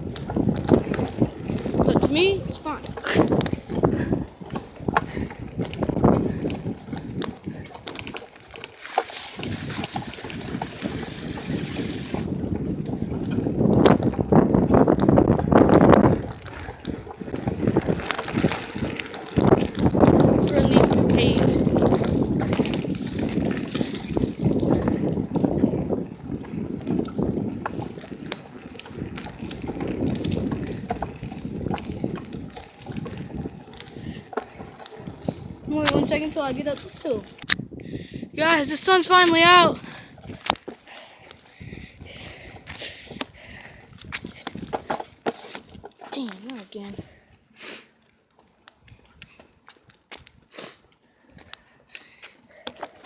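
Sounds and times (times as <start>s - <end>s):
wind buffeting microphone: 0.0s - 47.4s
bicycle tyres and frame rattling: 0.0s - 53.0s.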